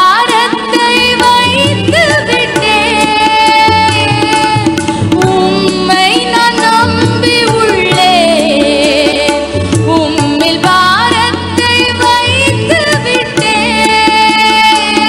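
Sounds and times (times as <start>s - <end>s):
tabla: 0.0s - 15.0s.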